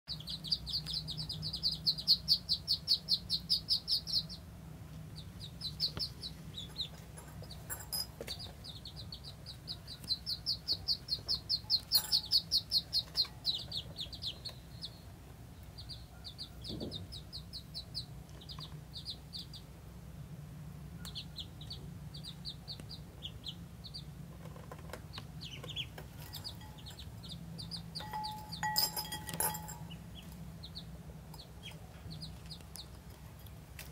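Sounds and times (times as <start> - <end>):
ducklings peeping: 0.1 - 33.9.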